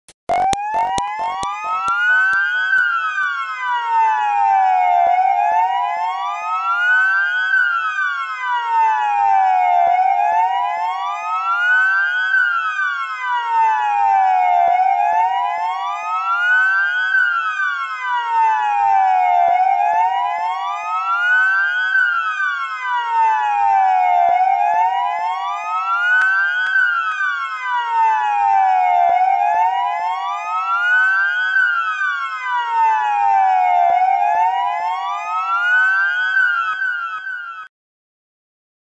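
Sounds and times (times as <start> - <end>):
siren wailing: 0.3 - 37.7.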